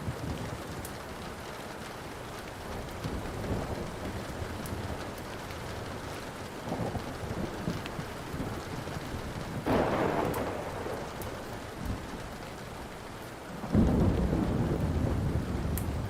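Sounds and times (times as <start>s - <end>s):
steady rain: 0.0s - 16.0s
wood fire crackling: 0.0s - 16.0s
thunder rumbling: 2.1s - 16.0s.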